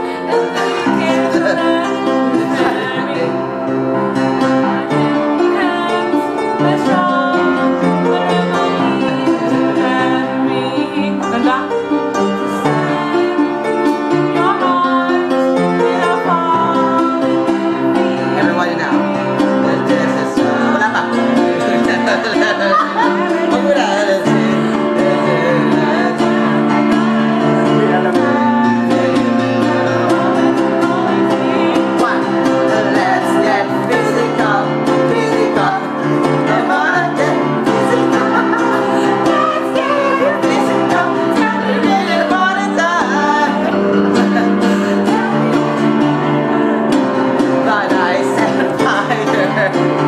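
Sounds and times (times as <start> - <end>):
group singing a pop ballad: 0.0 - 50.0
instrumental chord accompaniment: 0.0 - 50.0.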